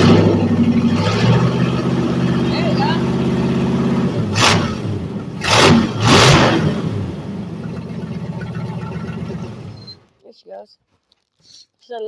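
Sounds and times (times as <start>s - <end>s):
race car engine revving and idling: 0.0s - 10.0s.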